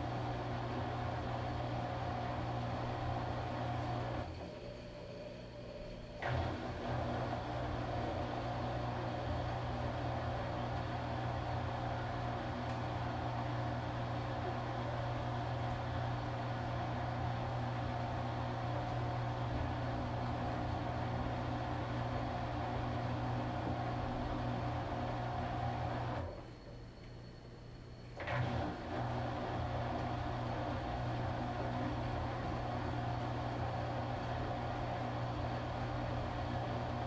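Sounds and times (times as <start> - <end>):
washing machine motor hum: 0.0 - 27.0, 27.7 - 37.0.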